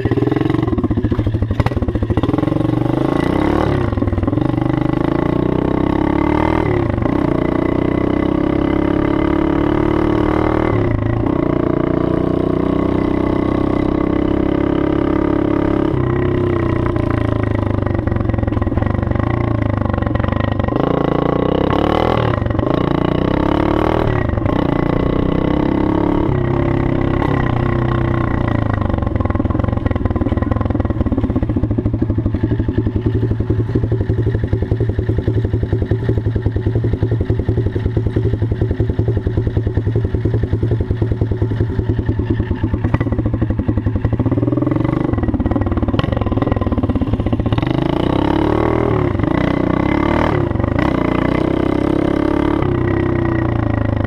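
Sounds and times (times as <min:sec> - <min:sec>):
pit bike engine revving and idling: 0:00.0 - 0:54.0.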